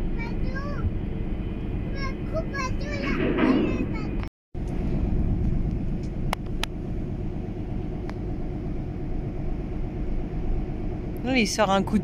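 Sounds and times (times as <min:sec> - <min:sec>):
ferry engines rumbling: 0:00.0 - 0:12.0.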